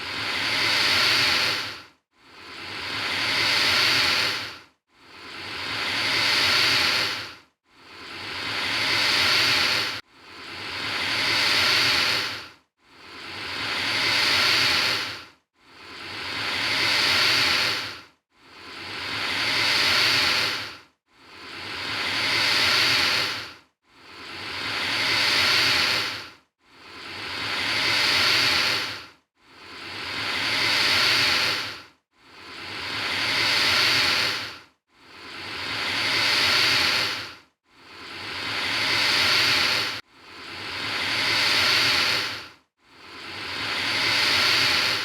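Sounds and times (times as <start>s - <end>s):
alligator hissing: 0.1s - 1.8s, 2.4s - 4.5s, 5.2s - 7.3s, 7.9s - 10.0s, 10.6s - 12.4s, 13.1s - 18.0s, 18.6s - 23.5s, 24.1s - 26.2s, 27.0s - 29.0s, 29.7s - 31.8s, 32.4s - 34.6s, 35.2s - 42.5s, 43.1s - 45.0s.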